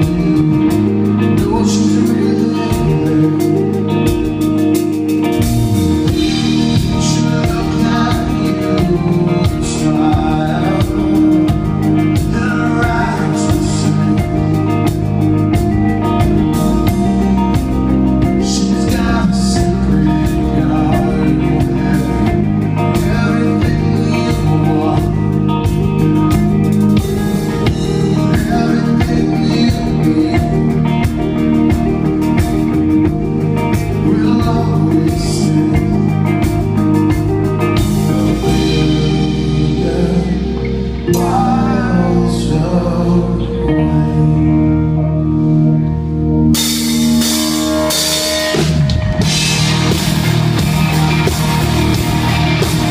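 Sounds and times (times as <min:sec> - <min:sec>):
man singing: 0:00.0 - 0:05.0, 0:05.6 - 0:45.4
electric guitar: 0:00.0 - 0:52.9
live rock band playing: 0:00.0 - 0:52.9.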